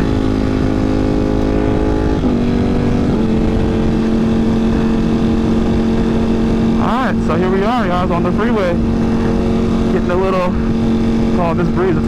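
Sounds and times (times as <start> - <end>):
motorcycle engine cruising: 0.0 - 12.0
wind rushing past microphone: 0.0 - 12.0.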